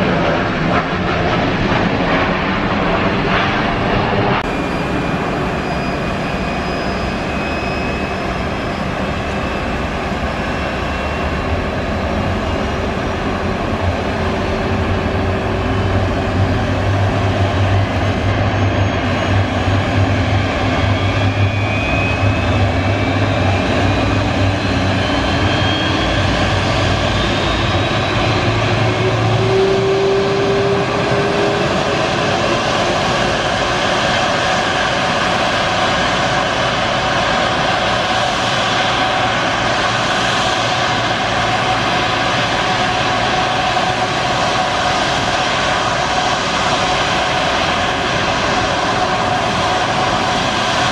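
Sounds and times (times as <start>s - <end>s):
jet engine whine and rumble: 0.0s - 50.9s.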